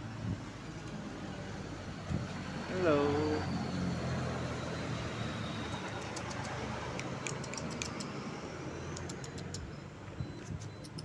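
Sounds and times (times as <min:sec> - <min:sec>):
traffic and street noise: 0:00.0 - 0:11.0.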